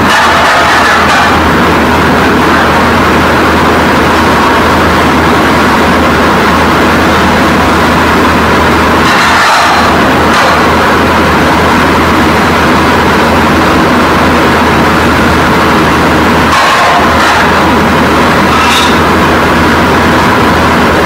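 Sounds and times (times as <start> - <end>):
loud steady rushing noise: 0.0 - 21.0.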